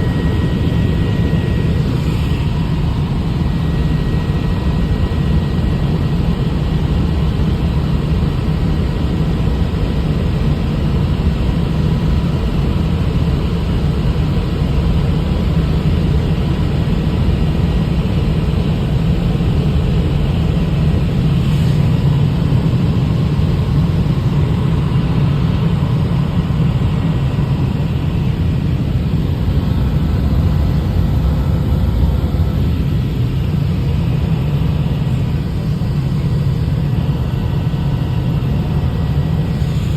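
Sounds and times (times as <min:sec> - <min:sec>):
faint steady whine: 0:00.0 - 0:39.9
helicopter rotor and engine drone: 0:00.0 - 0:39.9.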